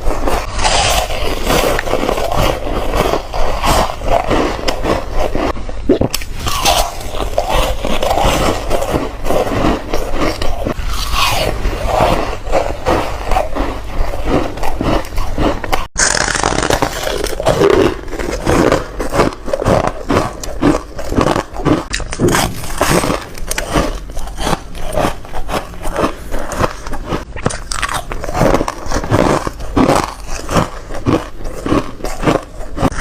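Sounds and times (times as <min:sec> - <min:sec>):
crunching ice: 0:00.0 - 0:33.0.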